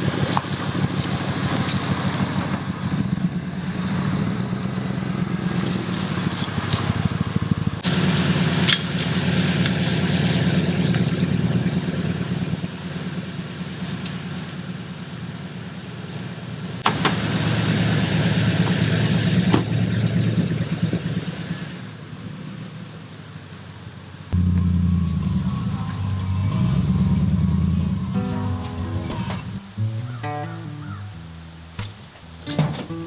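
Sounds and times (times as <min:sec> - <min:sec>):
vehicle engine running: 0:00.0 - 0:21.6, 0:24.3 - 0:33.0.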